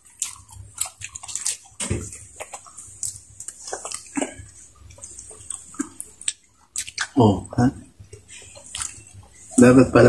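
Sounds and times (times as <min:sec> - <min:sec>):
chewing and lip smacks: 0:00.0 - 0:07.2, 0:08.0 - 0:09.7.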